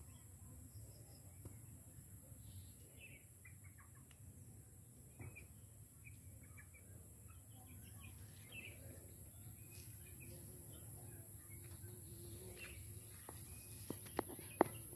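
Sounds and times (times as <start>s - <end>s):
faint bird chirps: 0.0s - 14.9s.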